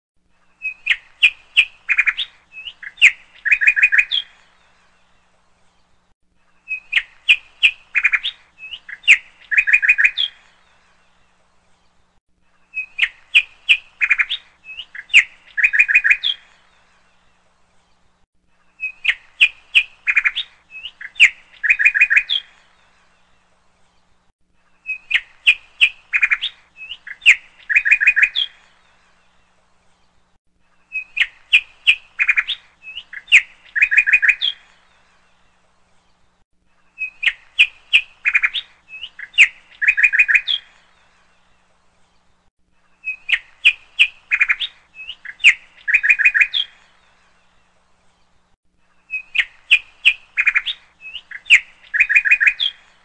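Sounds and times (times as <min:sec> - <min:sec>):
bird chirps and trills: 0:00.4 - 0:53.0.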